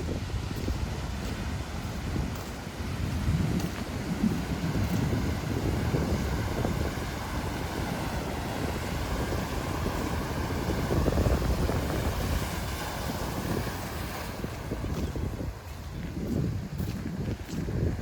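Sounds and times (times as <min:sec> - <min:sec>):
heavy ocean surf breaking: 0:00.0 - 0:16.7
wind buffeting microphone: 0:00.0 - 0:18.0.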